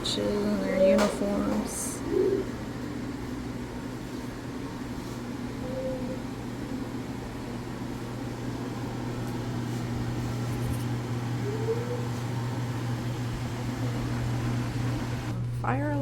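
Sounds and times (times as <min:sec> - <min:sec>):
ventilation hum and air noise: 0:00.0 - 0:16.0.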